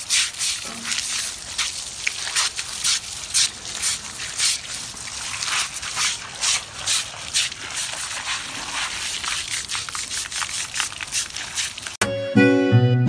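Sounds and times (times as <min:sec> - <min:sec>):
brush scrubbing: 0:00.0 - 0:12.0
hose water spraying and splashing: 0:00.0 - 0:12.0.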